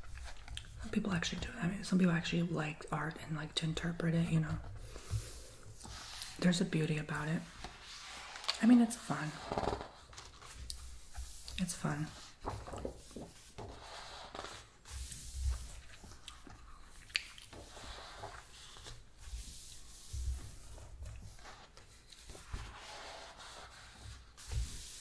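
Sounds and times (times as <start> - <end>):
book pages turning: 4.6 - 25.0.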